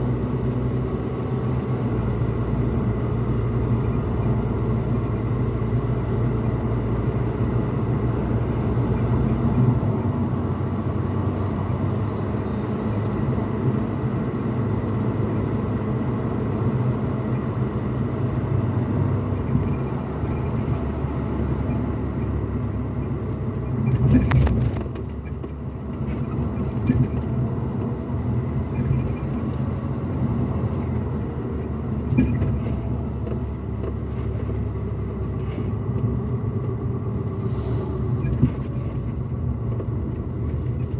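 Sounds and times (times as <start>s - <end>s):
engine and road rumble: 0.0s - 40.9s.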